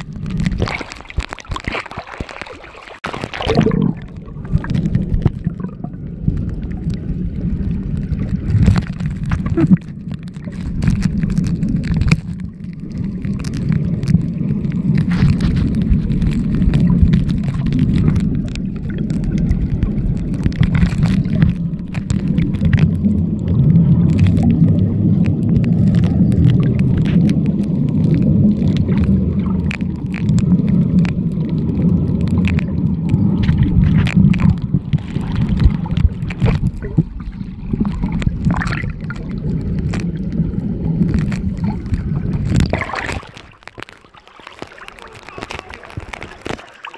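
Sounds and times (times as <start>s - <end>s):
clicks and crackles: 0.0s - 46.9s
underwater rumble of moving water: 0.0s - 46.9s.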